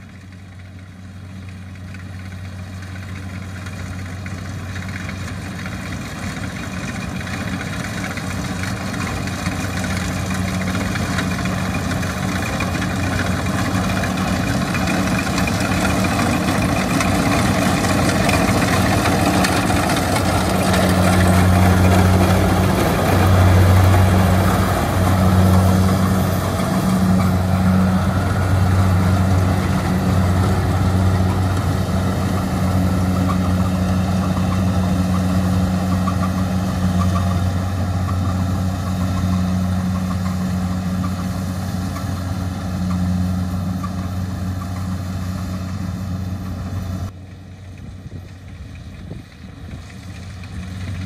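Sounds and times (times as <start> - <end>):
diesel engine hum: 0.0 - 51.0
threshing machinery clatter: 1.5 - 51.0.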